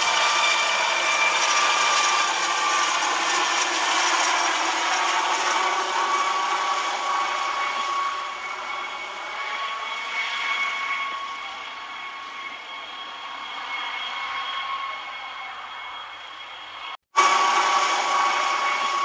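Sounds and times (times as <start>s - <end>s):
helicopter engine with turbine whine: 0.0s - 19.0s.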